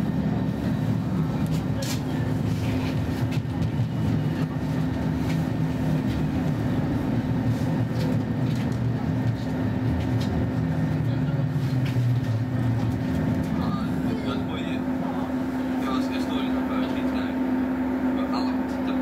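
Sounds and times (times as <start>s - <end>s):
train wheel and rail noise: 0.0s - 19.0s.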